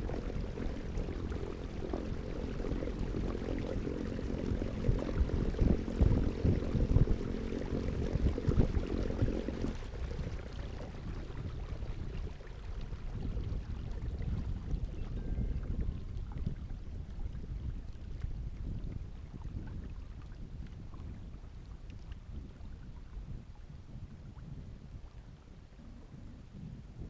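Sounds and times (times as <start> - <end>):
low rumbling water and wind: 0.0 - 27.0.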